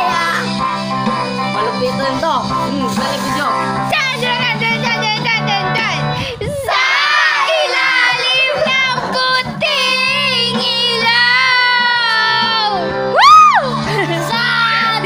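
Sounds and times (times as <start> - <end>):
karaoke backing track: 0.0 - 15.0.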